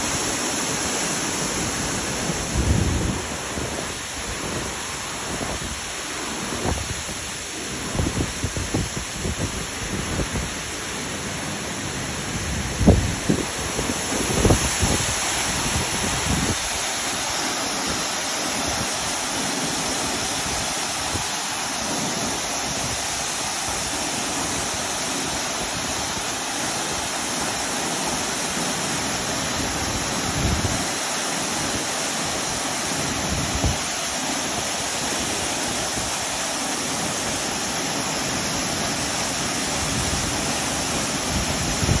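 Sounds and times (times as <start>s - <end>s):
waterfall rushing into rock pool: 0.0s - 42.0s.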